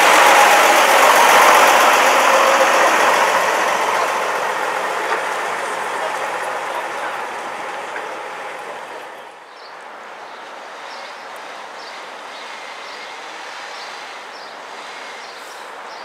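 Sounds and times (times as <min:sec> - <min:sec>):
bus engine pulling past: 0:00.0 - 0:16.0.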